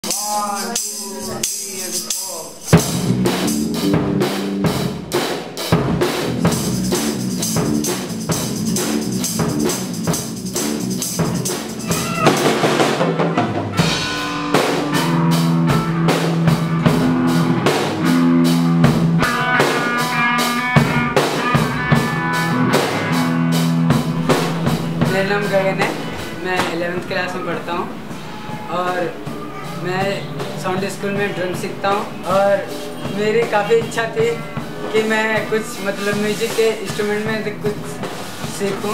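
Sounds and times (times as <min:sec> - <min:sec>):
drum kit rock beat: 0:00.0 - 0:38.9
amplified electric guitar: 0:01.2 - 0:09.6, 0:11.1 - 0:38.9
bass guitar notes: 0:01.3 - 0:38.9.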